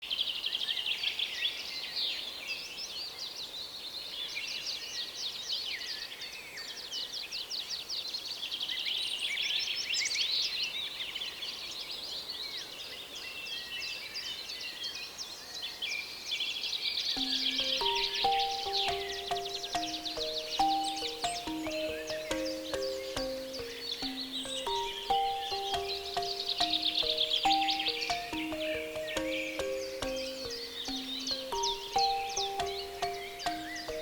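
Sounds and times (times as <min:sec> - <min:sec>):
songbirds singing: 0:00.1 - 0:34.0.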